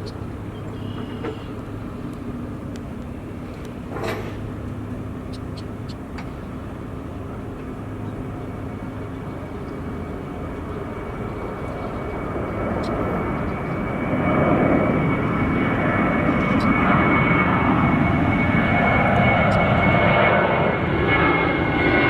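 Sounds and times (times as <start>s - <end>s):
low engine rumble: 0.0s - 22.0s.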